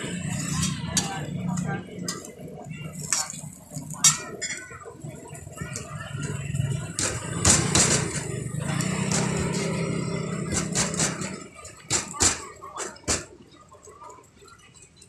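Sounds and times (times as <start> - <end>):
engine humming: 0.0 - 14.1.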